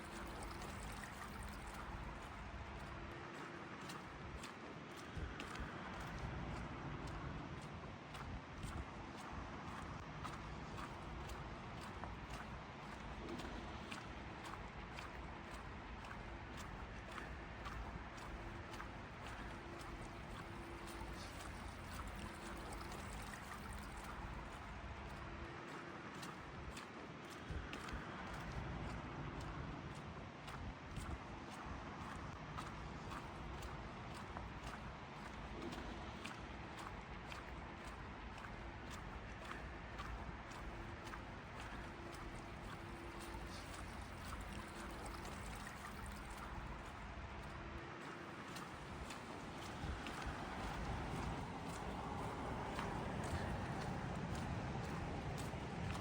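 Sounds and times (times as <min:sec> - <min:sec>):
trickling water: 0:00.0 - 0:56.0.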